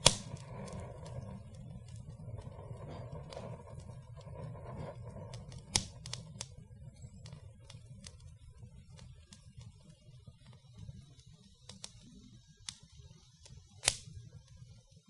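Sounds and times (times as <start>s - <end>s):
fire popping and snapping: 0.0s - 14.8s
fire rumbling: 0.0s - 14.9s.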